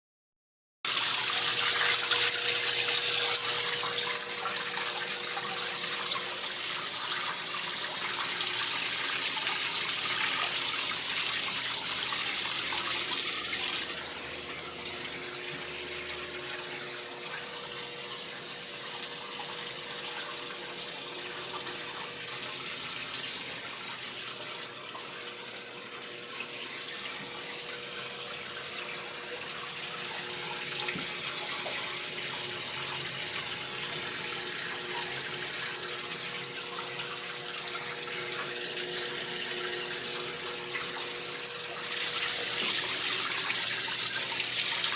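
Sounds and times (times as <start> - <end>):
water running into washing machine: 0.9 - 44.9.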